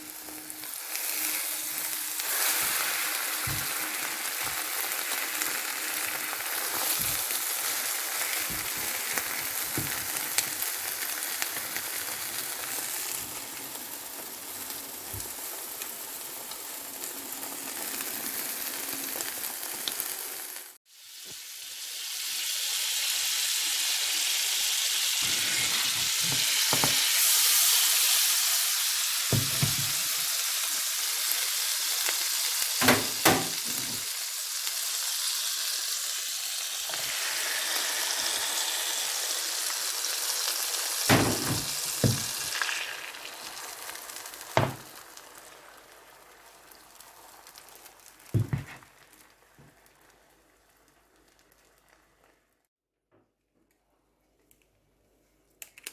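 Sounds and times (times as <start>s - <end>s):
food sizzling in oil: 0.0s - 52.6s.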